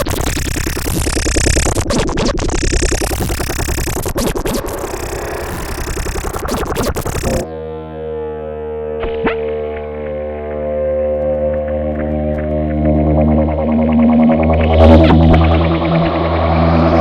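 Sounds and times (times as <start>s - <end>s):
gritty pulsing electronic noise: 0.0s - 17.0s
sustained droning tone: 2.6s - 17.0s.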